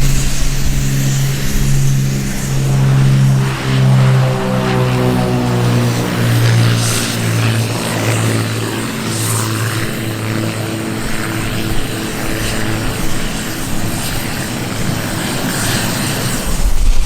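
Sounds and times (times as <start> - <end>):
propeller aircraft engines droning: 0.0 - 17.0
wind rumble on microphone: 0.0 - 17.0.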